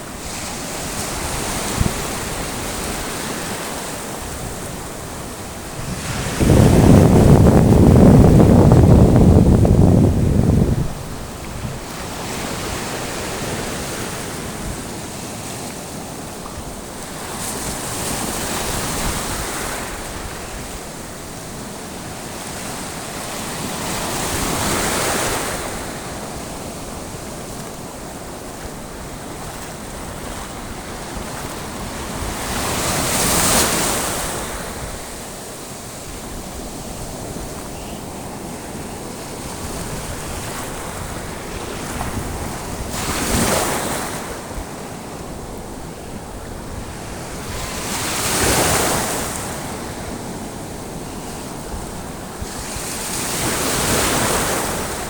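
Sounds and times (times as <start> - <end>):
sea waves washing in: 0.0 - 55.0
wind on microphone: 0.0 - 55.0.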